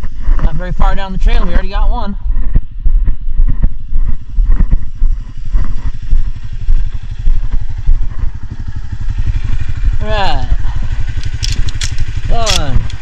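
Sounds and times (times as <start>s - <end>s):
quad engine idling: 0.0s - 13.0s.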